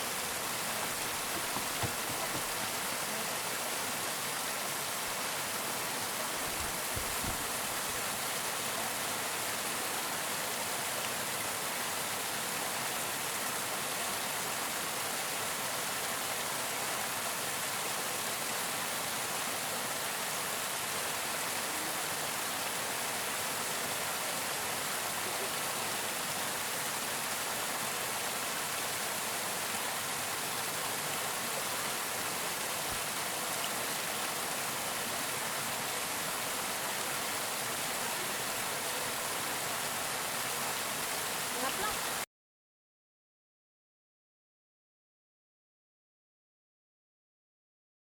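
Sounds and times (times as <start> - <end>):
waterfall rushing: 0.0 - 42.2.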